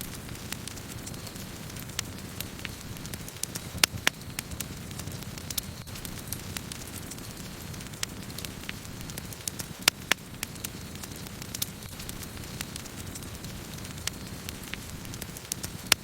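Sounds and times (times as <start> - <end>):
burning wood crackling and popping: 0.0 - 16.0
campfire flames rumbling: 0.0 - 16.0.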